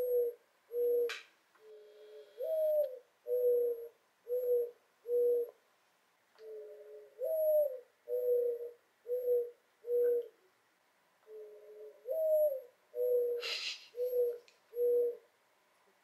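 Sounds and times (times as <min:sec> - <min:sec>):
dove cooing: 0:00.0 - 0:05.6, 0:06.4 - 0:10.5, 0:11.2 - 0:15.3.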